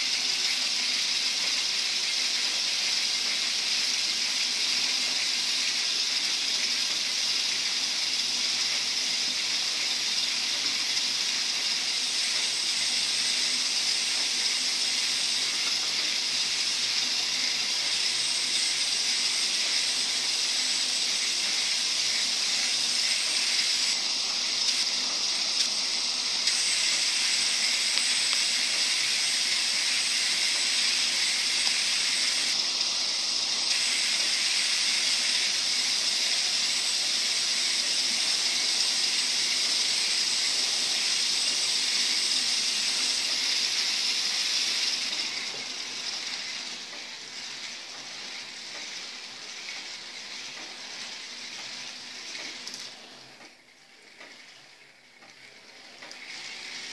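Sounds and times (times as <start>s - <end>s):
small electric motors whirring: 0.0s - 56.9s.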